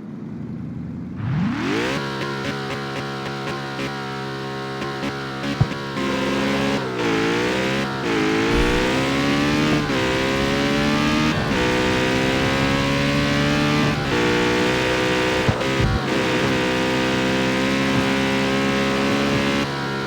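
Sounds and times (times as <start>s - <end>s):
car engine running: 3.0s - 20.0s.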